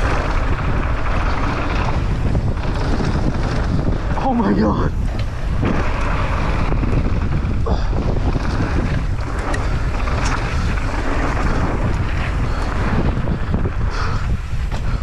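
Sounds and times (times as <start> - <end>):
tyres rolling on dirt trail: 0.0 - 15.0
wind rushing over microphone: 0.0 - 15.0.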